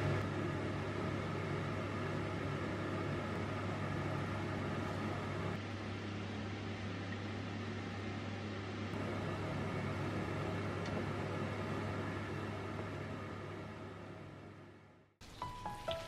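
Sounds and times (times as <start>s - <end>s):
kitchen fan hum and hiss: 0.0s - 16.0s.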